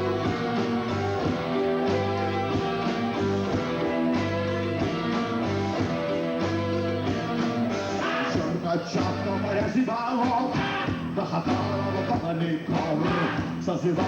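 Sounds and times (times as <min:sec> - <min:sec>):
rock band playing: 0:00.0 - 0:14.0
strummed guitar: 0:00.0 - 0:14.0.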